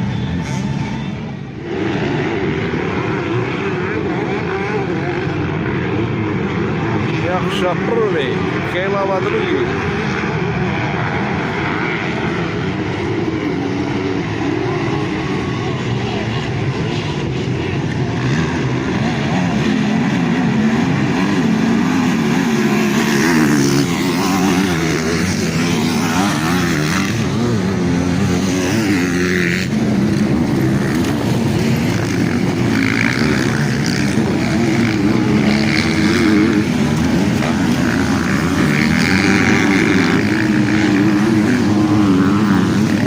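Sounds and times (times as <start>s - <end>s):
motocross bikes revving: 0.0s - 43.0s.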